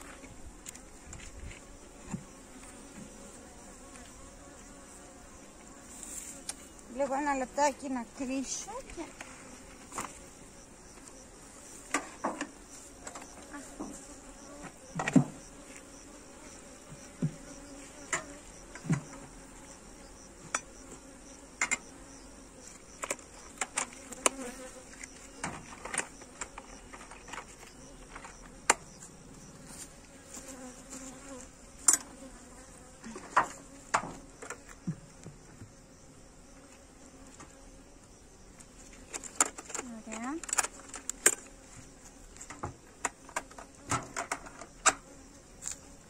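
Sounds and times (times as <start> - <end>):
bees humming: 0.0 - 46.0.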